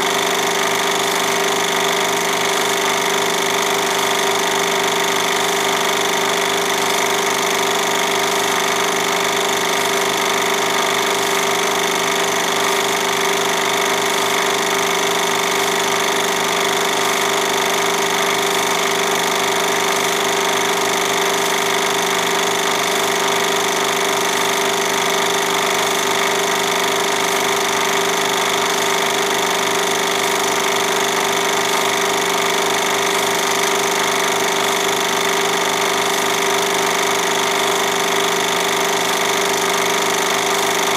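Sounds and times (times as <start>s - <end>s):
film projector whirring: 0.0s - 40.9s.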